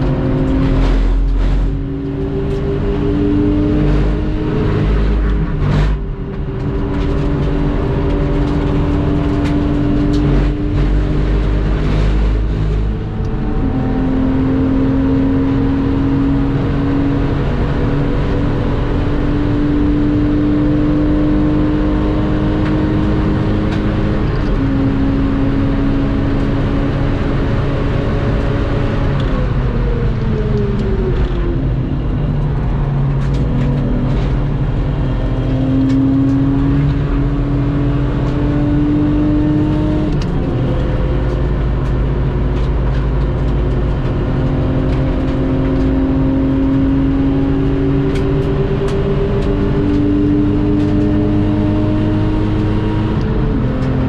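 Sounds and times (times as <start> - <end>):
car engine at full throttle: 0.0 - 54.0.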